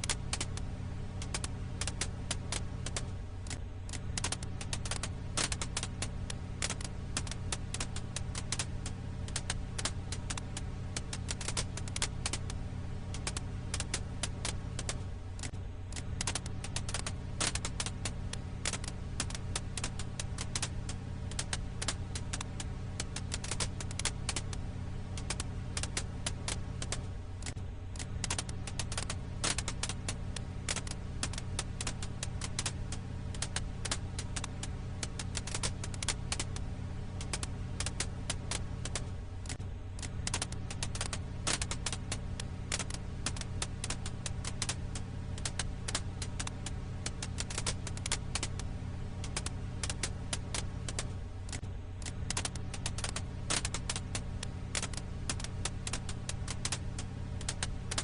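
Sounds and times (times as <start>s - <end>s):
campfire crackling: 0.0s - 58.0s
steady low hum: 0.0s - 58.0s.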